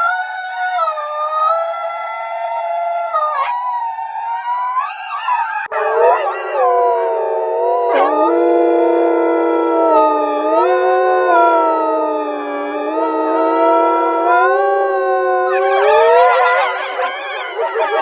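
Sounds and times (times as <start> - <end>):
wolves howling: 0.0 - 18.0.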